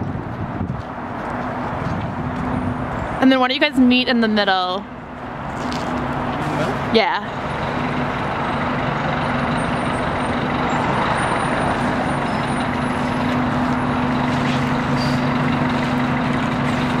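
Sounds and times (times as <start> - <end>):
street noise: 0.0 - 17.0
vehicle engine idling: 0.0 - 17.0.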